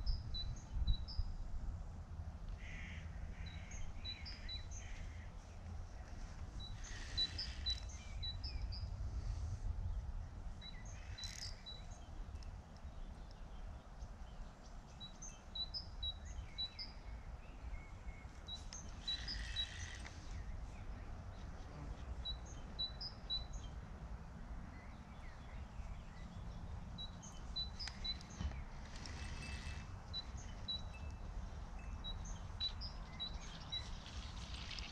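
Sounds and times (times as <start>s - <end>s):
small birds chirping: 2.6s - 34.9s.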